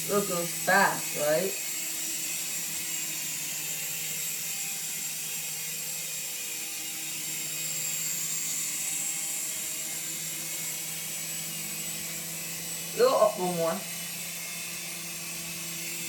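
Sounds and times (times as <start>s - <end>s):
toy helicopter whirring: 0.0s - 16.0s.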